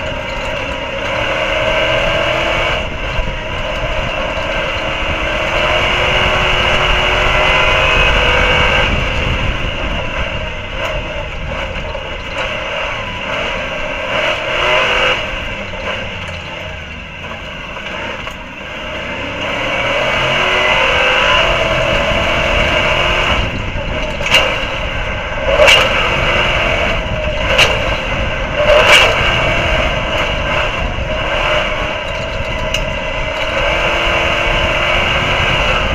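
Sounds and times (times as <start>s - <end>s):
race truck engine revving: 0.0s - 35.9s.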